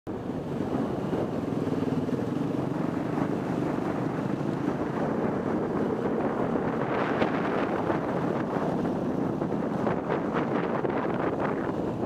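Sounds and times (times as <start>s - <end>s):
motorcycle engine running: 0.1s - 12.0s
wind rushing over microphone: 0.1s - 12.0s.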